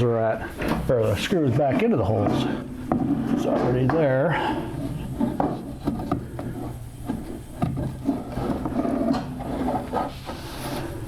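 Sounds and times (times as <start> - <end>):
wood rubbing on wood: 0.0 - 11.0.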